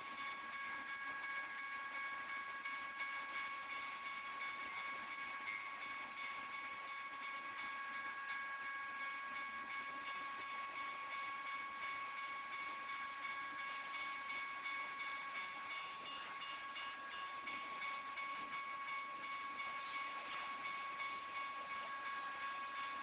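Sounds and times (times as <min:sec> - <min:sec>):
crossing bell ringing: 0:00.0 - 0:23.0
train rolling on rails: 0:00.0 - 0:23.0.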